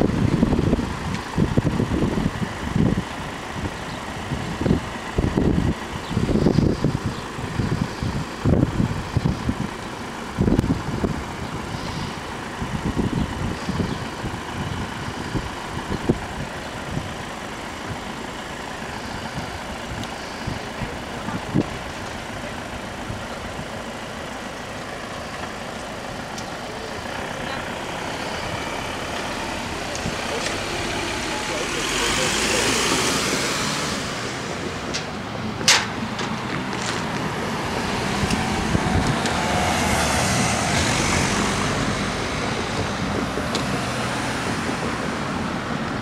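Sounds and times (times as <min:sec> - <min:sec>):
vehicle engines running: 0:00.0 - 0:46.0.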